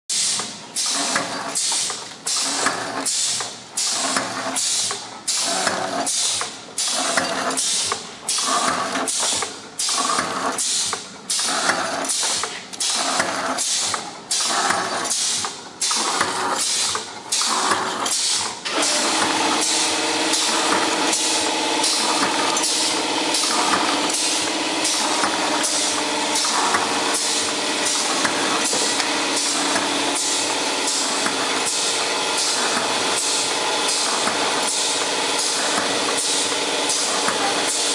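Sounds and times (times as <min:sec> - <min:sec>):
packing machine clatter: 0:00.2 - 0:37.9
machine hum with droning whine: 0:00.5 - 0:37.9.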